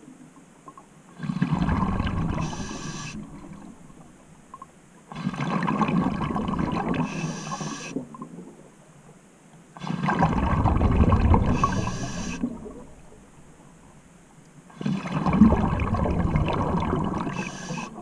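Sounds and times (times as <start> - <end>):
underwater bubbling exhaust: 0.0 - 9.0, 9.7 - 18.0.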